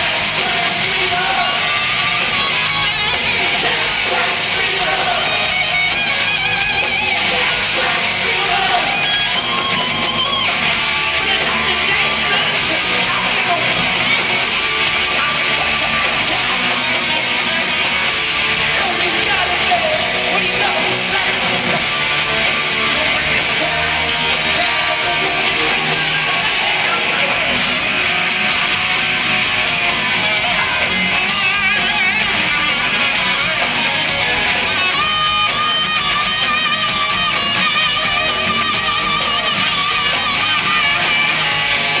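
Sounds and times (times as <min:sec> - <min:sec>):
bass guitar: 0:00.0 - 0:42.0
distorted electric guitars: 0:00.0 - 0:42.0
drums: 0:00.0 - 0:42.0.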